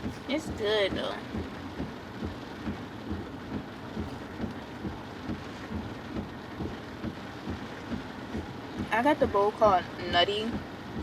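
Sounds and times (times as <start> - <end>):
heavy rain on a car roof: 0.0 - 11.0.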